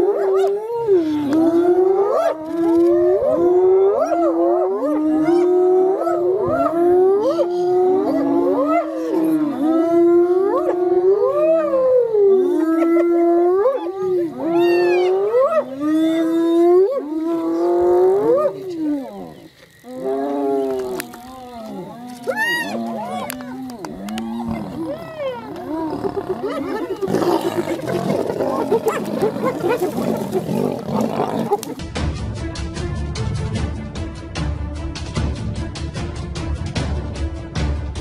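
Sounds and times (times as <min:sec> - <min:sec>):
hyenas yelping and whooping: 0:00.0 - 0:31.8.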